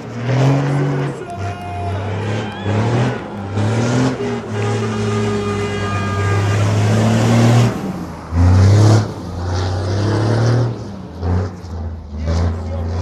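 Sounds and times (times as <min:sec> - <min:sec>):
truck diesel engine revving: 0:00.0 - 0:13.0.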